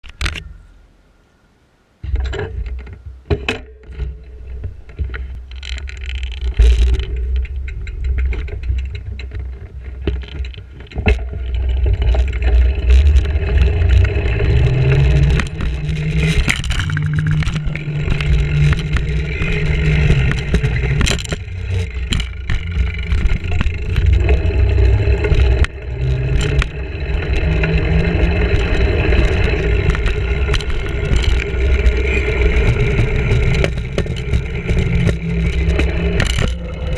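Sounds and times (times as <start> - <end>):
bicycle rattling and clicking: 2.2 - 36.9
wind buffeting microphone: 4.2 - 36.9.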